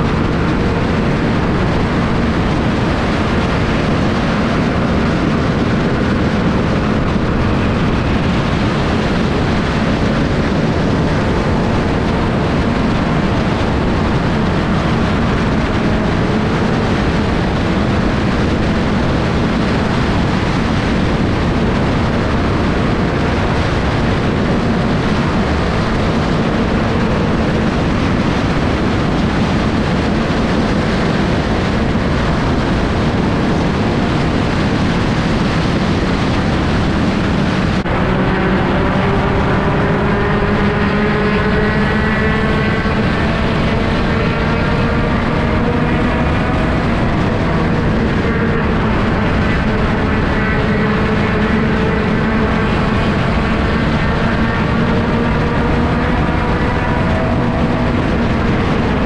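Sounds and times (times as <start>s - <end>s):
race car engine running: 0.0s - 59.0s
road and wind noise: 0.0s - 59.0s.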